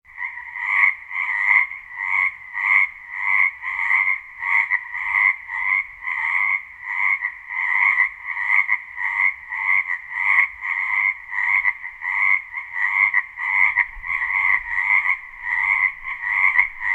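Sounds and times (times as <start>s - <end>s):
frog croaking: 0.1s - 16.9s.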